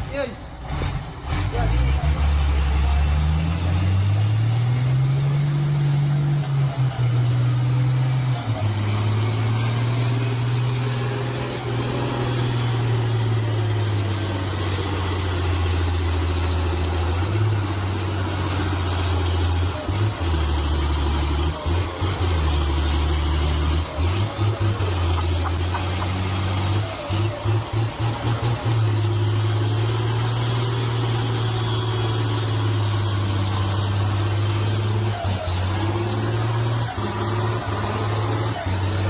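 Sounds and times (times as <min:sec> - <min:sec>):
heavy truck engine running: 0:00.0 - 0:39.0.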